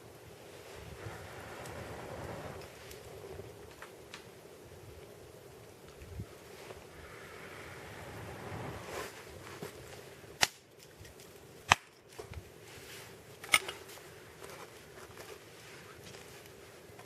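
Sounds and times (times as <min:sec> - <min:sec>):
log fire crackling and popping: 0:00.0 - 0:17.0.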